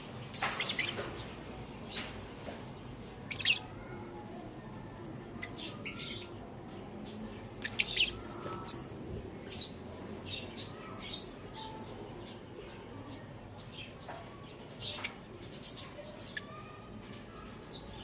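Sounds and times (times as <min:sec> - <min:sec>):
lovebirds chirping and squawking: 0:00.0 - 0:18.0.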